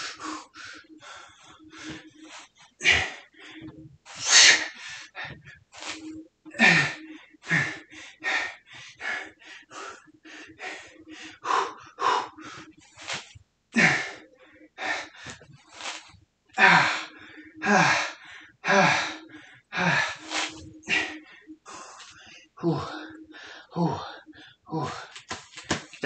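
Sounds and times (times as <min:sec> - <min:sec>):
man breathing hard: 0:00.0 - 0:13.2, 0:13.8 - 0:16.0, 0:16.6 - 0:25.8.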